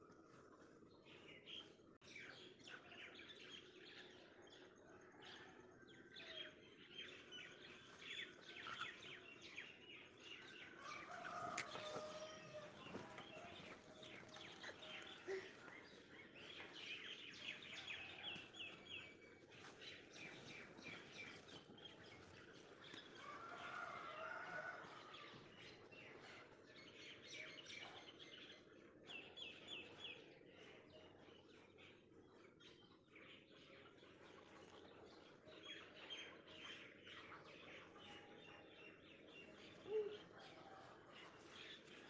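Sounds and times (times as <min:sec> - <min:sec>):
small birds chirping: 0:05.9 - 0:42.0.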